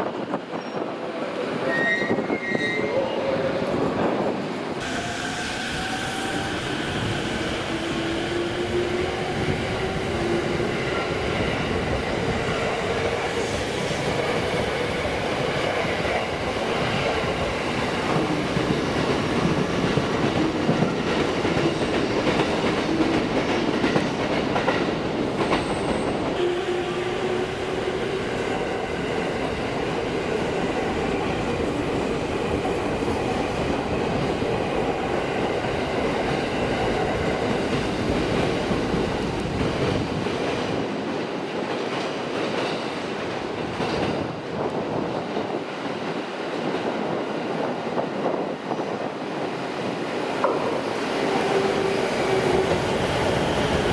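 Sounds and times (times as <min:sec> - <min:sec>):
train rumble: 0:03.2 - 0:53.9.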